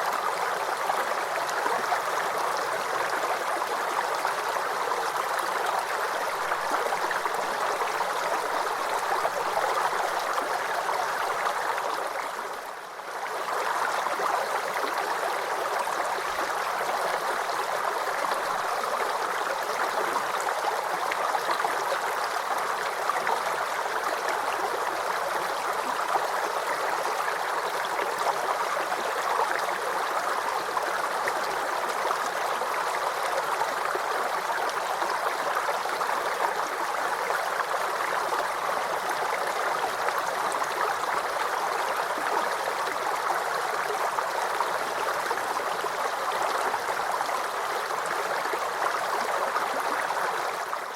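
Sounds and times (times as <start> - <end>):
creek babbling over stones: 0.0 - 50.9.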